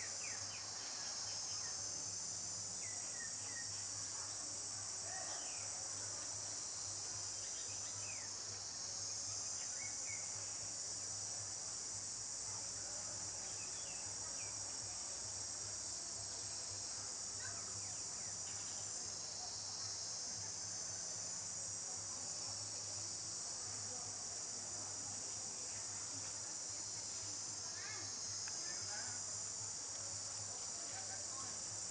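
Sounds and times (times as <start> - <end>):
insects chorus: 0.0 - 31.9.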